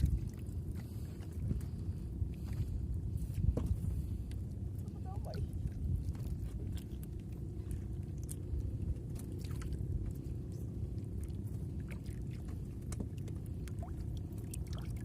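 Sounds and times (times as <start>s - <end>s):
low rumble of water and wind: 0.0s - 15.0s
water splashes: 0.0s - 15.0s.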